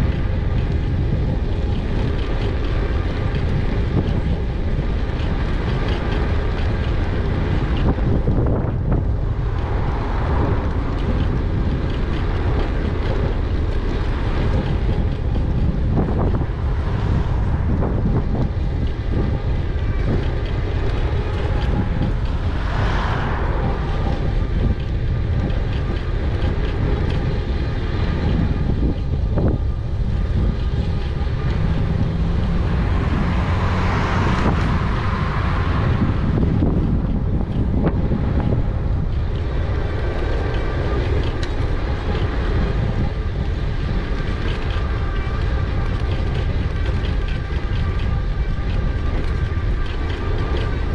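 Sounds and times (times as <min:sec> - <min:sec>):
bike rattles and knocks: 0:00.0 - 0:50.9
wind buffeting microphone: 0:00.0 - 0:50.9.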